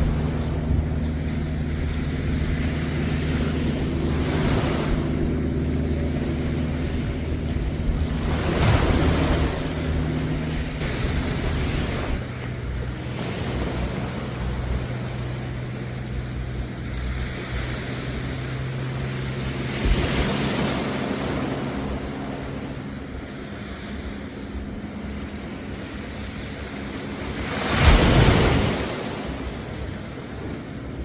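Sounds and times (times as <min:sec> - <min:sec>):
sea waves washing onto beach: 0:00.0 - 0:31.0
steady low hum: 0:00.0 - 0:31.0
wind buffeting microphone: 0:00.0 - 0:31.0.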